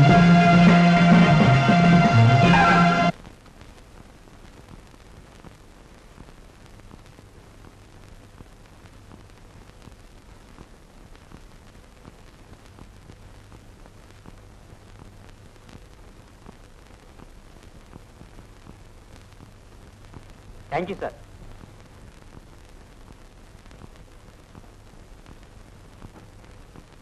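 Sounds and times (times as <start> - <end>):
film soundtrack hiss: 0.0 - 27.0
faint crackles: 3.1 - 27.0.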